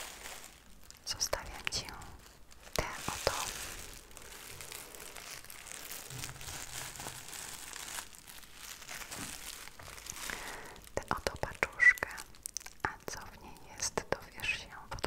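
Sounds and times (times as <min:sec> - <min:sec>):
sequins rustling under fingers: 0:00.0 - 0:14.7.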